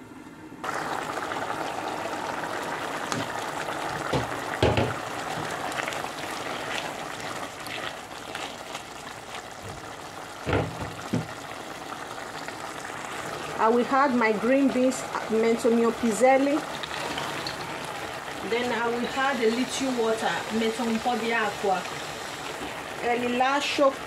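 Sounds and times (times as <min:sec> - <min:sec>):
stew simmering and bubbling: 0:00.6 - 0:24.0.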